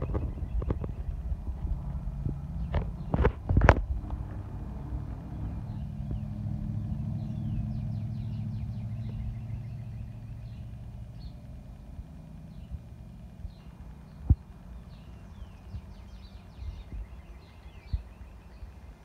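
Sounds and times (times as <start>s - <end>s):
birds chirping: 0.0s - 19.0s
vehicle engine rumble: 0.0s - 19.0s.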